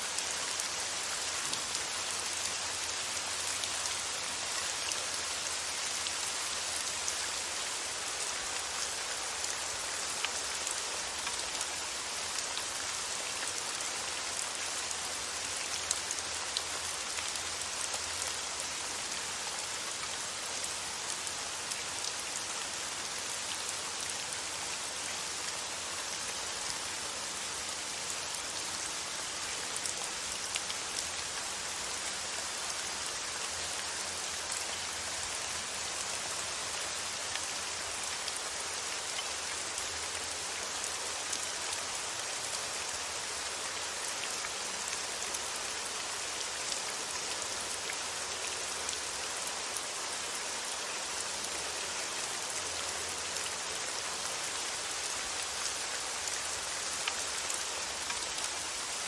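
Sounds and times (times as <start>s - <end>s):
rain pattering: 0.1s - 59.0s.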